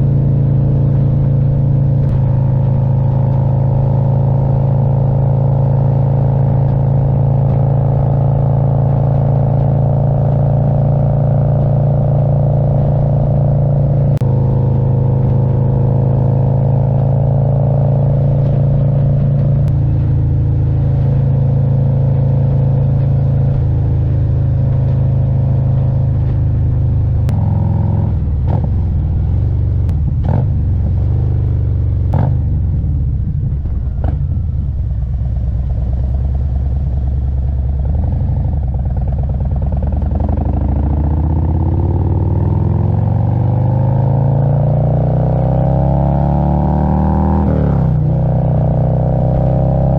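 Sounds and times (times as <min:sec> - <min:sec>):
motorcycle engine rumbling: 0:00.0 - 0:49.9.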